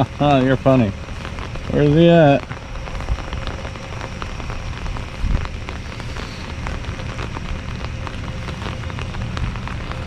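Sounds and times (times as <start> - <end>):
rain drops ticking: 0.0 - 10.0.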